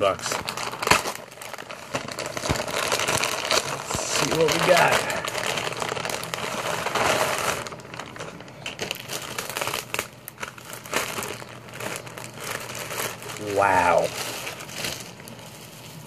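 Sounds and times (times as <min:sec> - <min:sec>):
plastic bag crinkling: 0:00.0 - 0:16.0
tissue paper crinkling: 0:00.0 - 0:16.0.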